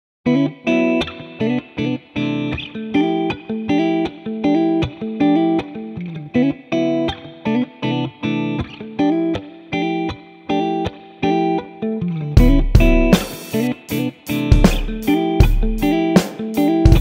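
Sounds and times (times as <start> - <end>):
guitar music with plucked chords: 0.2 - 17.0.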